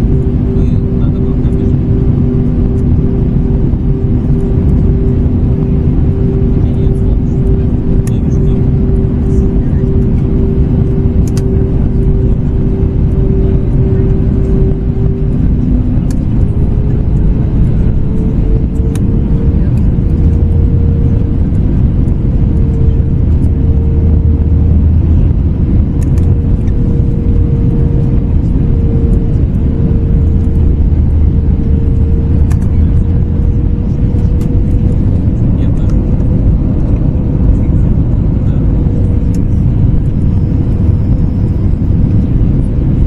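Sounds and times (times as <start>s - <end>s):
airplane cabin engine rumble: 0.0s - 43.0s.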